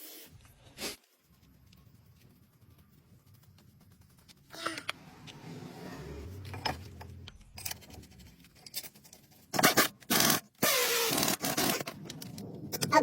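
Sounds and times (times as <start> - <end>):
scraping and rubbing: 0.3 - 13.0.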